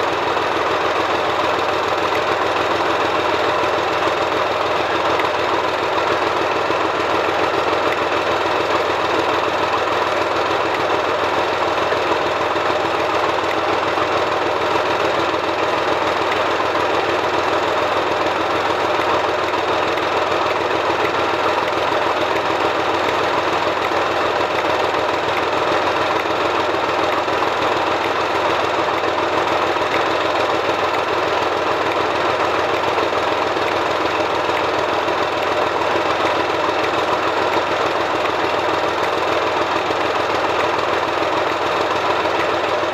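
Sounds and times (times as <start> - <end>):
diesel locomotive engine idling: 0.0 - 42.9.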